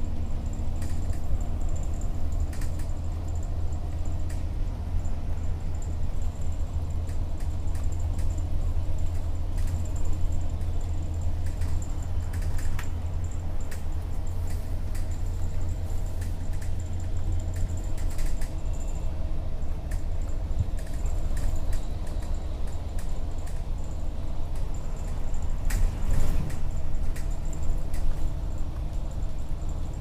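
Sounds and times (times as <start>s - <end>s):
vehicle interior rumble: 0.0s - 30.0s
light clicks and rattles: 0.4s - 4.5s, 5.3s - 19.0s, 19.7s - 30.0s.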